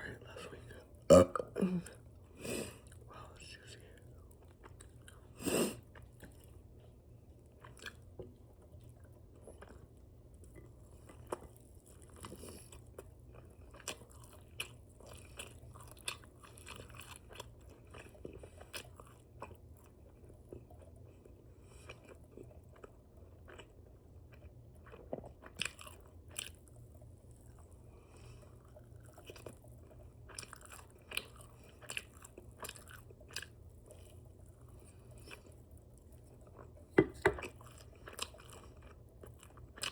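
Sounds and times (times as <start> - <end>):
open-mouthed chewing and lip smacking: 1.9 - 39.9.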